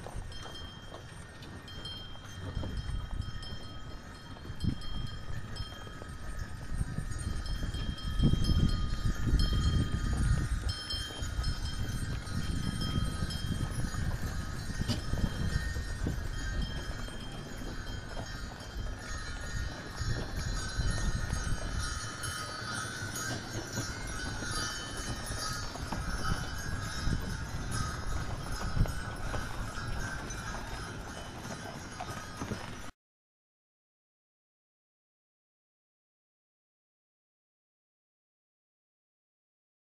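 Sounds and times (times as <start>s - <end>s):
sleigh bells jingling: 0.0s - 32.9s.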